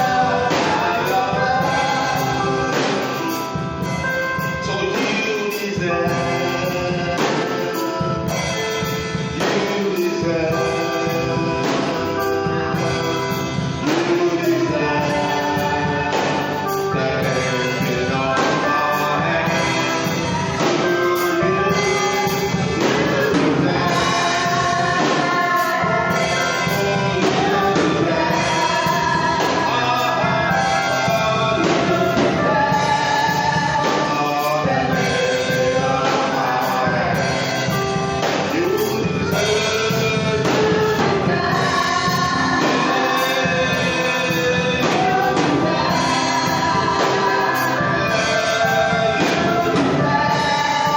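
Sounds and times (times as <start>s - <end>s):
steady drum beat: 0.0s - 50.9s
voices singing together: 0.0s - 50.9s.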